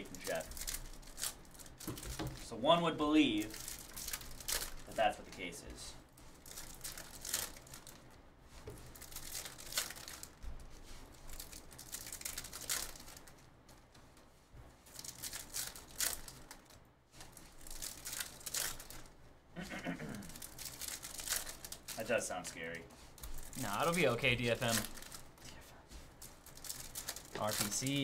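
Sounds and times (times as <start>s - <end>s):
card pack wrappers crinkling and tearing: 0.0s - 5.6s, 6.2s - 8.1s, 8.8s - 13.5s, 14.8s - 28.0s.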